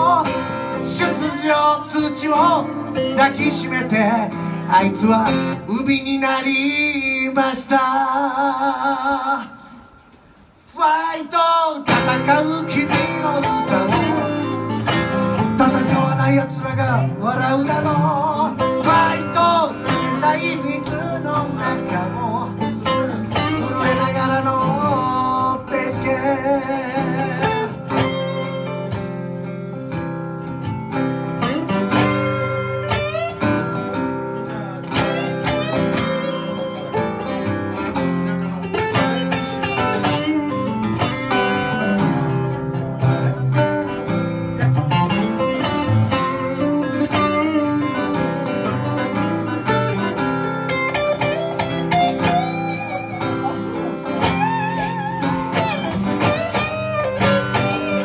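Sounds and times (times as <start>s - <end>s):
electric guitar with bending notes: 0.0s - 10.8s, 11.8s - 58.0s
acoustic guitar: 0.0s - 58.0s.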